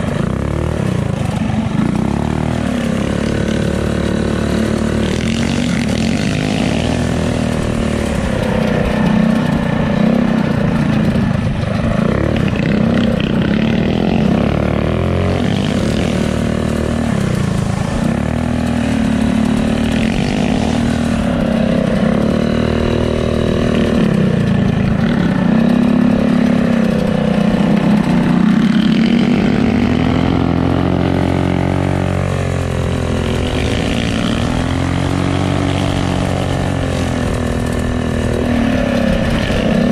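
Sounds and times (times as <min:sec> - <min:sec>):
small engine revving: 0:00.0 - 0:39.9.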